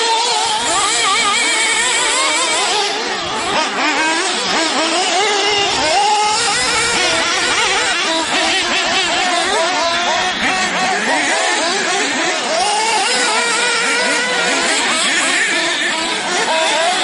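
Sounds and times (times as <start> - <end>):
rc car engines whining: 0.0 - 17.0.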